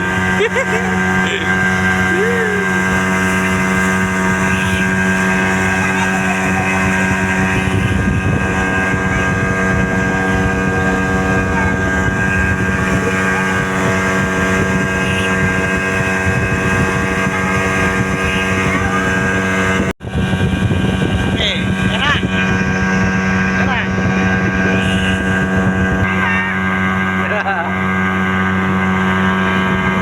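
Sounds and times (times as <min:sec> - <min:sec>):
speedboat engine running: 0:00.0 - 0:30.0
water noise: 0:00.0 - 0:30.0
wind: 0:00.0 - 0:30.0.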